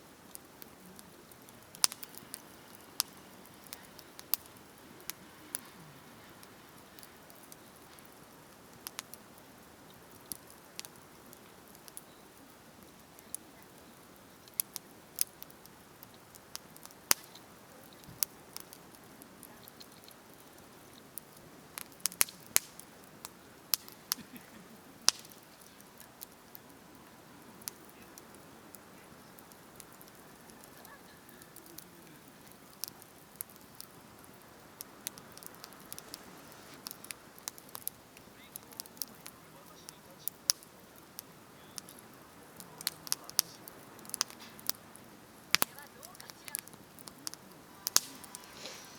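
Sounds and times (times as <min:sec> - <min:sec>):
campfire crackling and popping: 0:00.0 - 0:48.9
faint steady hiss: 0:00.0 - 0:48.9.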